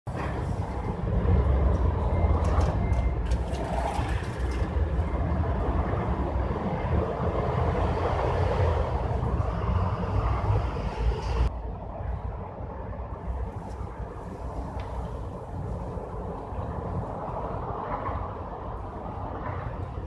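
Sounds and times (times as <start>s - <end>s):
hazy noise: 0.1s - 20.0s.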